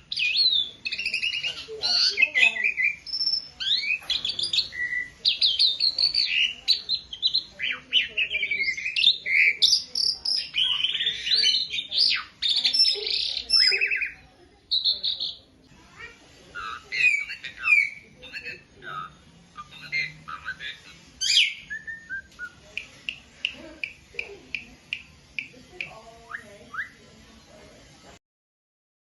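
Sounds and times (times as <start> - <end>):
starling singing: 0.0 - 27.5.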